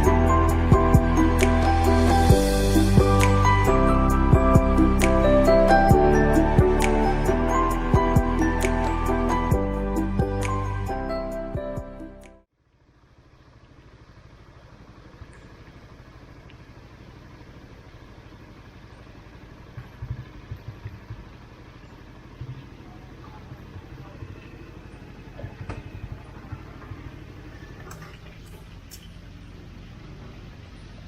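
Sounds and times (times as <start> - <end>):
motorcycle engine running: 0.0 - 31.0
road noise: 0.0 - 31.0.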